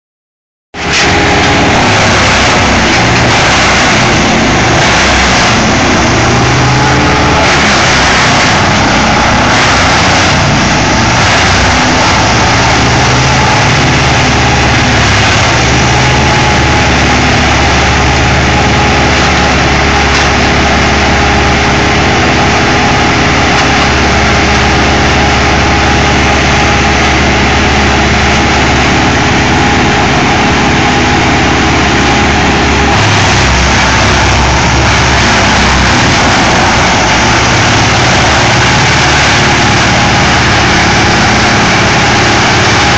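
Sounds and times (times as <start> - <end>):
wood chipper engine running: 0.7 - 42.9
wood crunching in chipper: 0.8 - 42.9.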